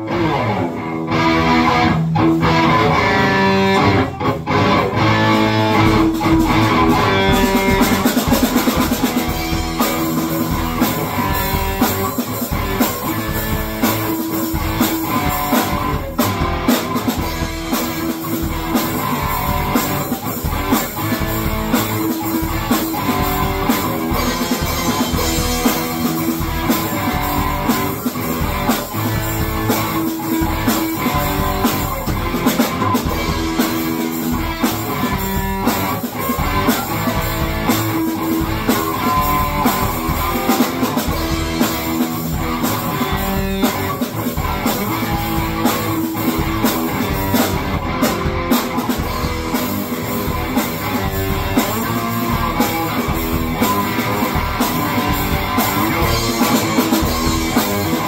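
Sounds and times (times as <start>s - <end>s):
drum kit: 0.0s - 58.0s
electric guitar: 0.0s - 58.0s.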